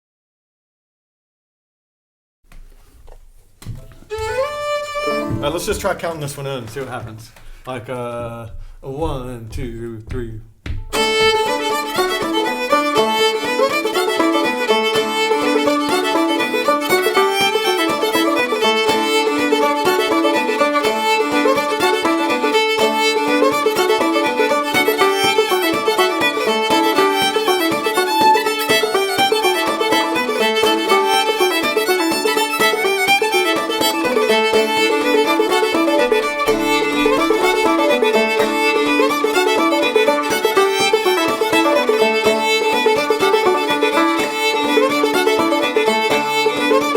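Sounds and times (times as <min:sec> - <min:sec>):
banjo plucking: 0:03.6 - 0:09.3, 0:10.9 - 0:46.9
fiddle bowed melody: 0:03.7 - 0:09.4, 0:10.9 - 0:46.9.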